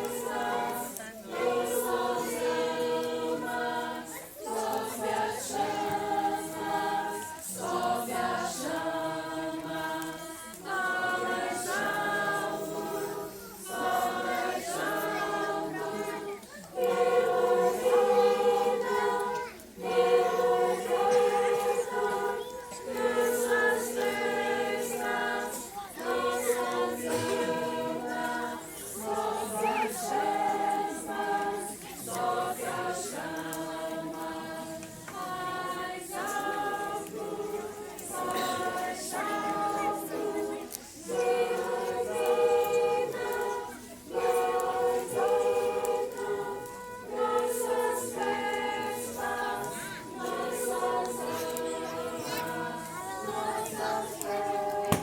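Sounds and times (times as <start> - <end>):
group of voices singing: 0.0 - 55.0.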